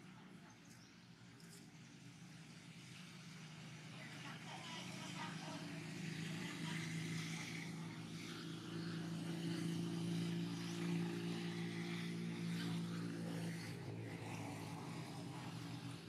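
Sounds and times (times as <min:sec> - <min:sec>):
engine hum: 0:00.0 - 0:16.0.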